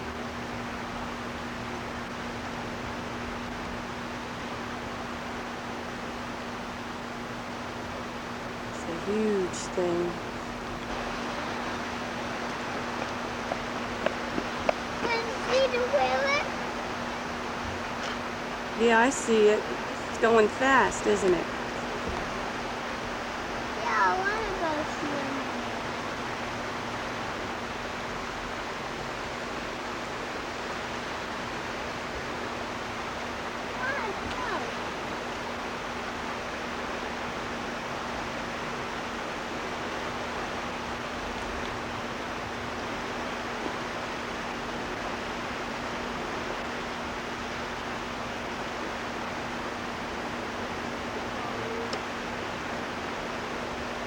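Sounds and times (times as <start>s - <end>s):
faint steady hum: 0.0s - 54.0s
water rushing at a dam: 0.0s - 54.0s.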